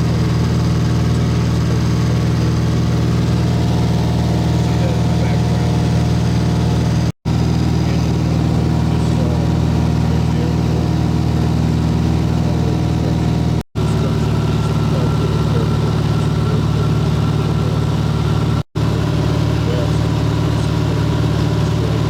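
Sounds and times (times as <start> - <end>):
small plane engine drone: 0.0 - 22.0.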